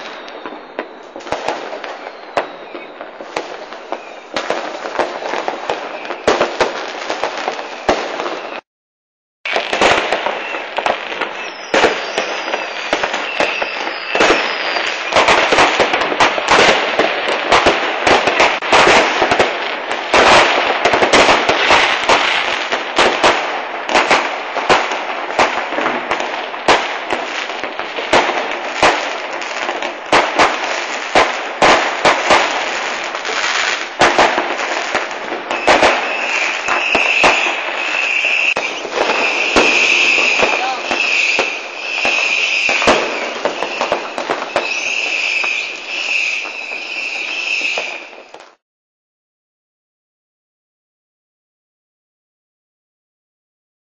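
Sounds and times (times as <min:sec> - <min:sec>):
firecracker bangs: 0:00.0 - 0:08.6, 0:09.5 - 0:48.6
fireworks crackling and rumbling: 0:00.0 - 0:08.6, 0:09.4 - 0:48.6.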